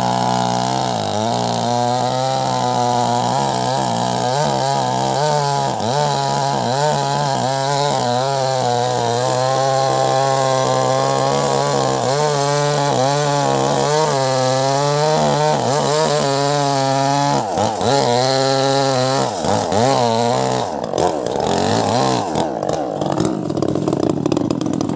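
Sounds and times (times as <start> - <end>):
chainsaw cutting wood: 0.0 - 24.9.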